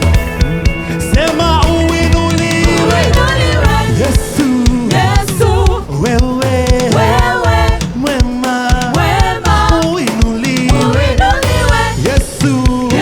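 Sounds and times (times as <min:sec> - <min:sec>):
gospel band with drums: 0:00.0 - 0:13.0
person singing: 0:00.5 - 0:13.0.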